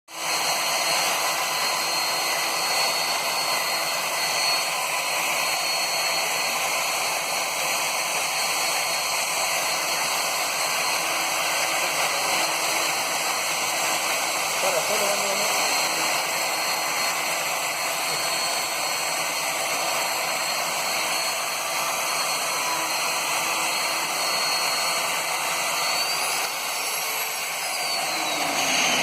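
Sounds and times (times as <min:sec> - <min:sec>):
drill motor whirring: 0:00.1 - 0:29.0.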